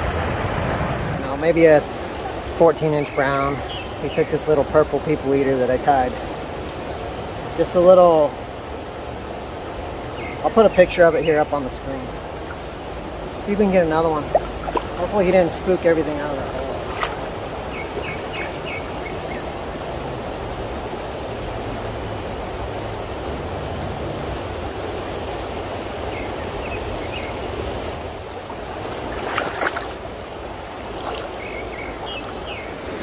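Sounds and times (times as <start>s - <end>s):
creek water running: 0.0s - 33.0s.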